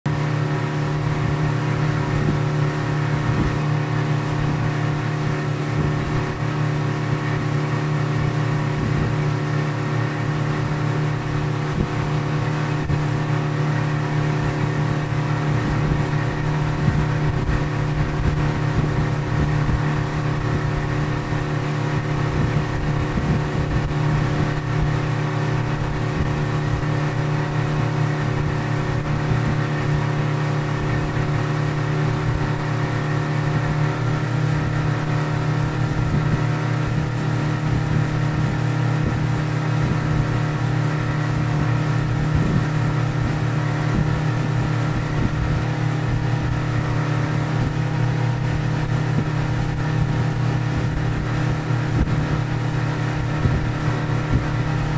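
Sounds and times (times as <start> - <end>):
outboard motor drone: 0.0 - 54.9
low rumble: 0.1 - 54.9.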